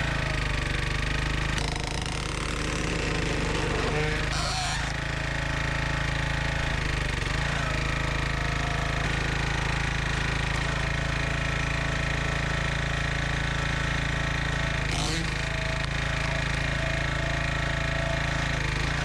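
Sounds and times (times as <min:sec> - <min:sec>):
small gas engine running: 0:00.0 - 0:19.0.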